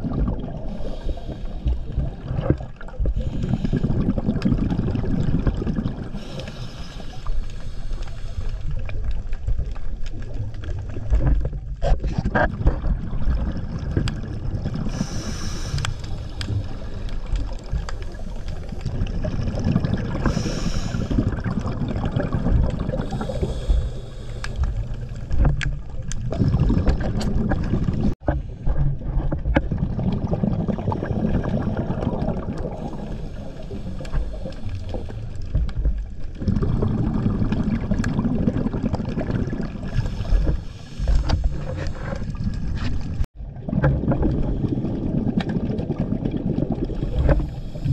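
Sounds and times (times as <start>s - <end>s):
diver exhaling bubbles: 0.0s - 9.1s, 11.8s - 35.3s, 36.3s - 47.9s
underwater low rumble: 0.0s - 47.9s.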